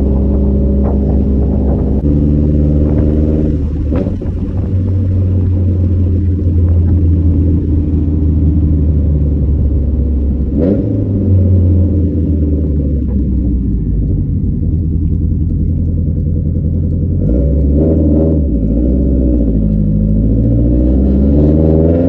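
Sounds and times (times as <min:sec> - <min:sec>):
car engine drone from cabin: 0:00.0 - 0:22.0.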